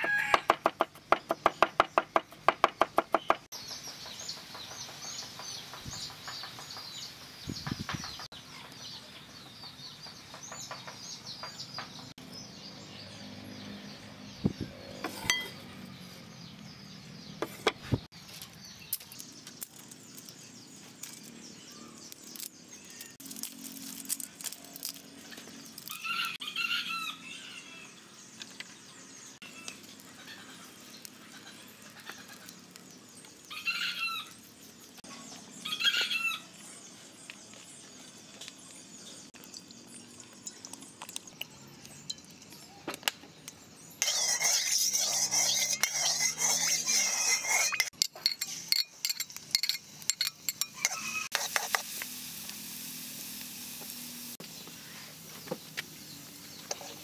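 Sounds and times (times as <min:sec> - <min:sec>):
small birds chirping: 0:00.0 - 0:51.4, 0:53.8 - 0:57.0.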